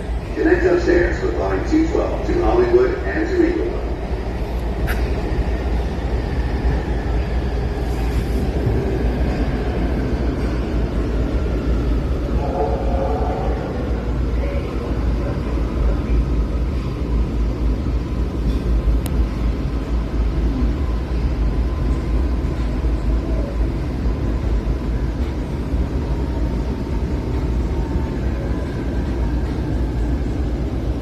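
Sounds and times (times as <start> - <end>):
subway car rumble: 0.0 - 31.0.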